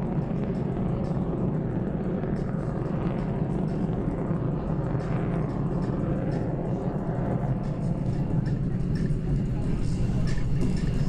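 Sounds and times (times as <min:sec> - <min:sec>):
fighter jet flying overhead: 0:00.0 - 0:11.0.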